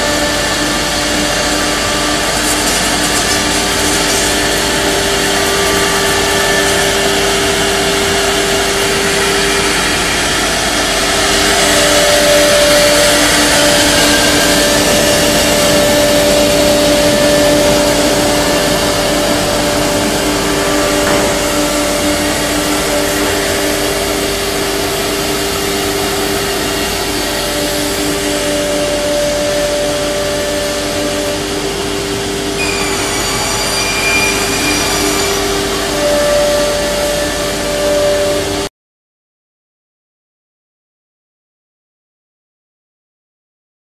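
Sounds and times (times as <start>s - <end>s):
dust extraction rushing: 0.0s - 38.5s
router spindles whining: 0.0s - 38.6s.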